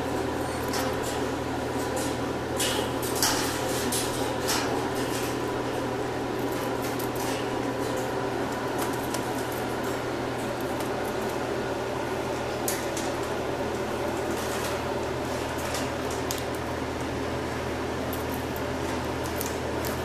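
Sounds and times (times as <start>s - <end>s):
fan humming with whine: 0.0s - 20.0s.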